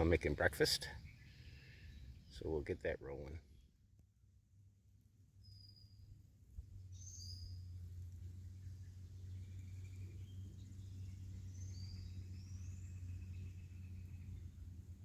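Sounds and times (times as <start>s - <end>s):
songbirds chirping and whistling: 0.0s - 3.7s, 5.4s - 15.0s.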